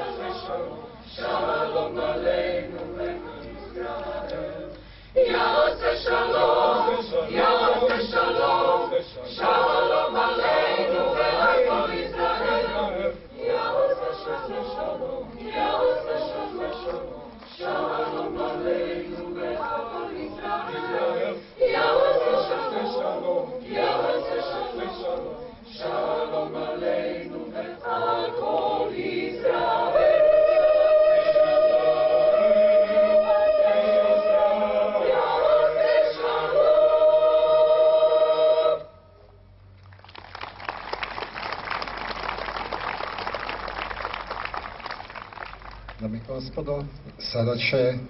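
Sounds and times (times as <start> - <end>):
mixed choir singing unaccompanied: 0.0 - 39.0.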